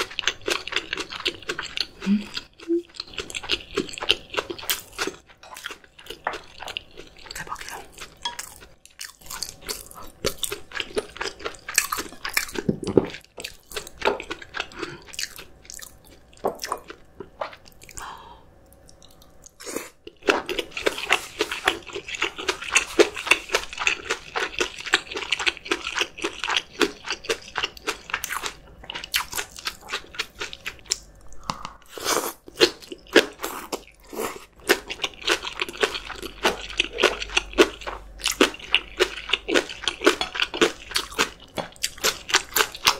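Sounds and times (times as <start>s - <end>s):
crisp crunching and chewing: 0.0s - 18.0s, 18.8s - 31.2s, 32.5s - 42.9s.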